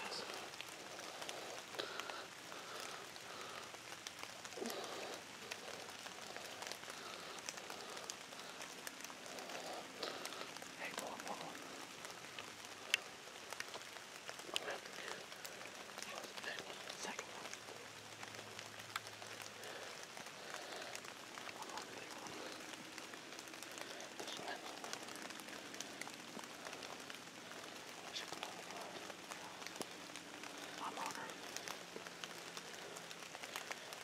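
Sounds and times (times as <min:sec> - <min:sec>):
light rain on leaves: 0:00.0 - 0:34.0.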